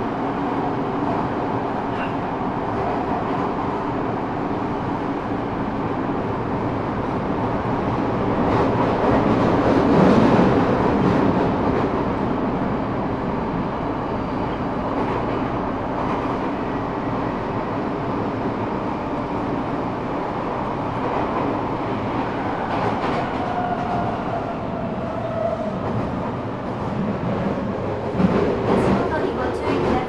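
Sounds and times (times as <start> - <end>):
subway wheels rumbling on track: 0.0 - 30.0.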